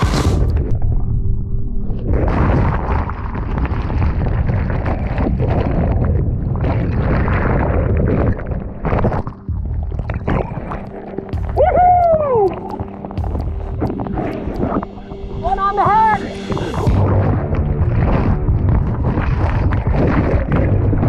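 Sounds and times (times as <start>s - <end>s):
muffled underwater rush of water: 0.0s - 21.0s.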